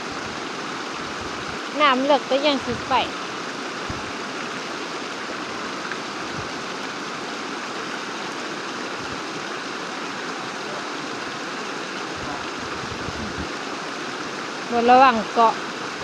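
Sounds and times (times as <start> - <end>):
fast-flowing water rushing: 0.0 - 16.0.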